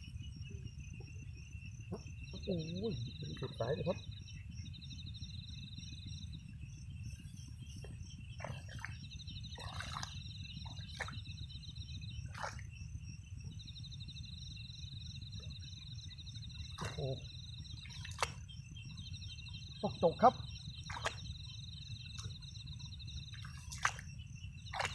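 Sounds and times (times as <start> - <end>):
crickets trilling: 0.0 - 24.9.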